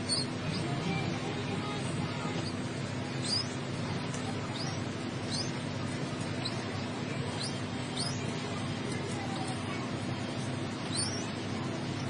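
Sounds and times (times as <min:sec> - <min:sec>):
pigeon chick peeping: 0:00.0 - 0:12.0.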